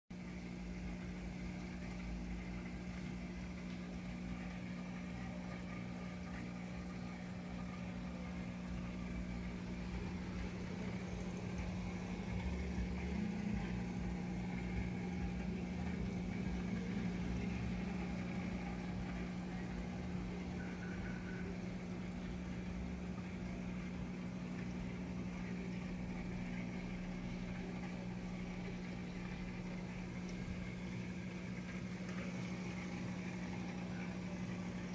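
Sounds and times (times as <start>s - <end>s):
aquarium air pump humming: 0.2s - 34.9s.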